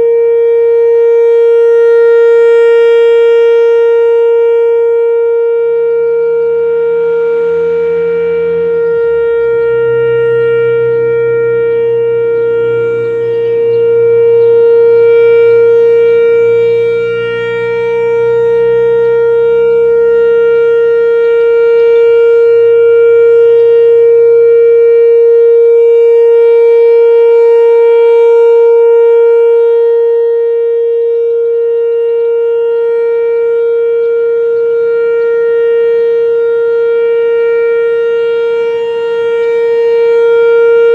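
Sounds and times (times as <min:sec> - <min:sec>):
outdoor warning siren steady tone: 0:00.0 - 0:40.9.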